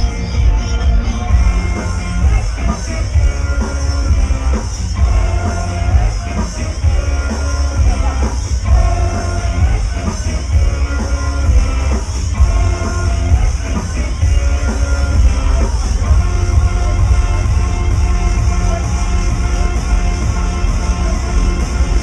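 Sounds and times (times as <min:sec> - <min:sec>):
electro house music: 0:00.0 - 0:22.0.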